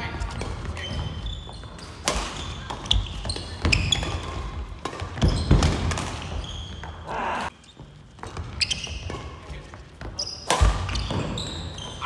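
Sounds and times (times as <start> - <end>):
sneakers squeaking on floor: 0.0 - 12.0
rackets hitting shuttlecock: 0.1 - 7.5, 8.2 - 12.0.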